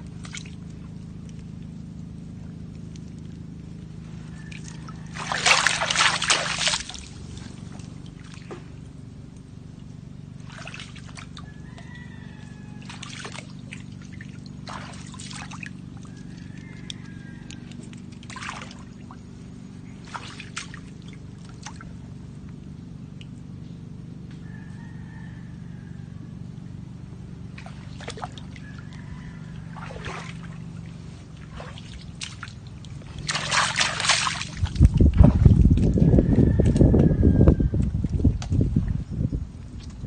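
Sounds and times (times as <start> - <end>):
water splashing and sloshing: 0.0 - 23.6, 27.2 - 37.0, 37.8 - 40.0
steady low hum: 0.0 - 40.0.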